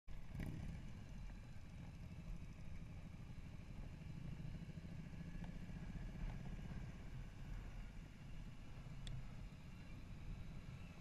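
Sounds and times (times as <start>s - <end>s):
motorcycle engine cruising: 0.1s - 11.0s
road noise: 0.1s - 11.0s.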